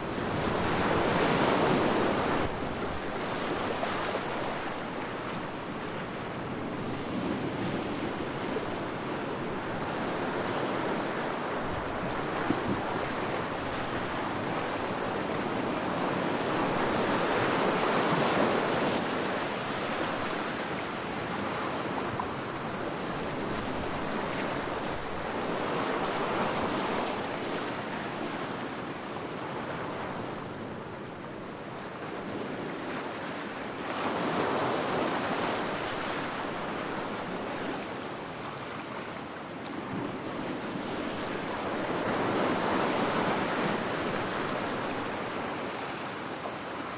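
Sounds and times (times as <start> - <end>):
ocean waves breaking on beach: 0.0 - 46.9.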